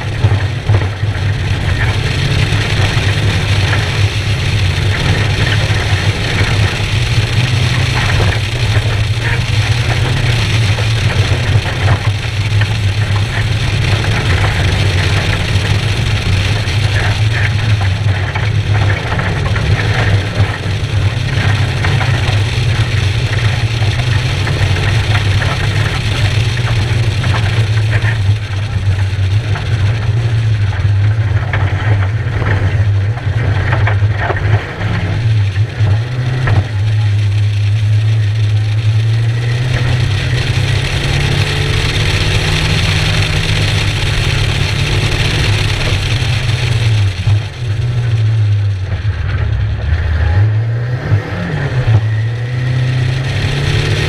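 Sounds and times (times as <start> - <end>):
diesel engine pulling hard: 0.0 - 54.0
road and wind noise: 0.0 - 54.0.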